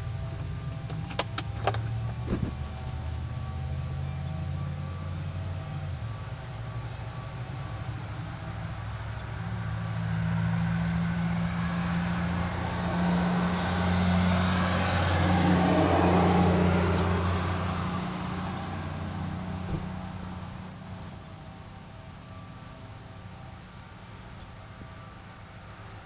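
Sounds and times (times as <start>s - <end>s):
vehicle engine passing by: 0.0s - 21.6s.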